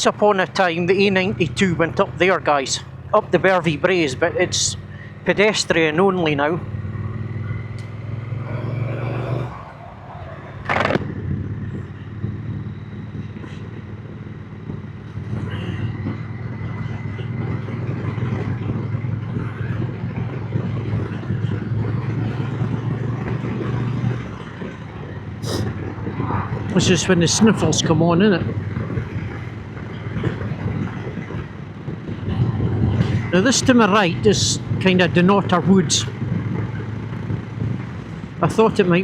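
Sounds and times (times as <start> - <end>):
motorcycle engine running: 0.0 - 9.7, 10.6 - 39.0.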